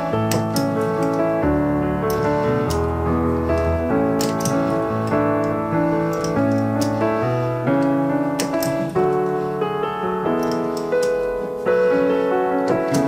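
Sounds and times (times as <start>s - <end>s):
piano background music: 0.0s - 13.0s.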